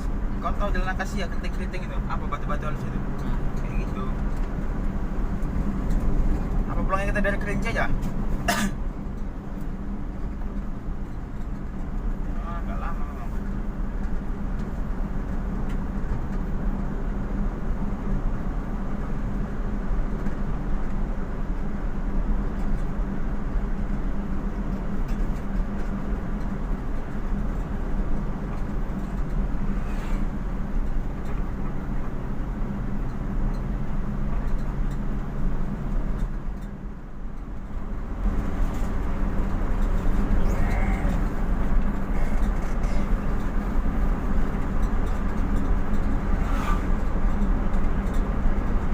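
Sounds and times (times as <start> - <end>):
vehicle engine and road noise: 0.0 - 48.9.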